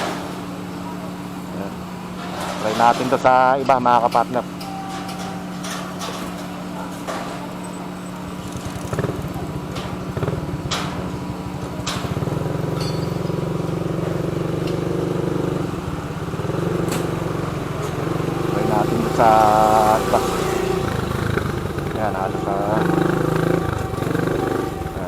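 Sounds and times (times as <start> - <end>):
motorcycle engine: 0.0 - 25.0.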